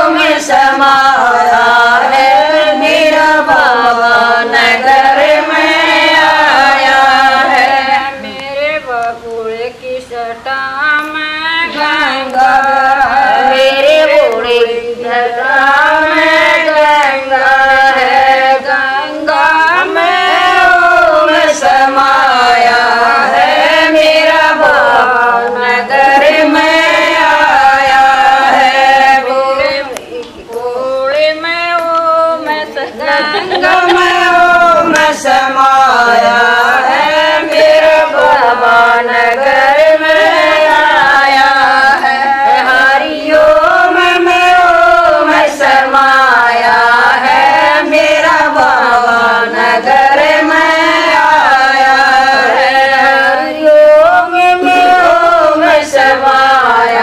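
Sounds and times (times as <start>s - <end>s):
women singing devotional hymn: 0.0s - 57.0s.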